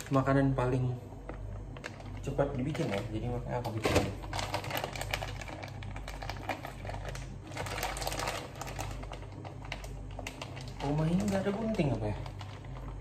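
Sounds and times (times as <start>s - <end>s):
plastic packaging crinkling: 0.0s - 0.6s, 1.2s - 13.0s.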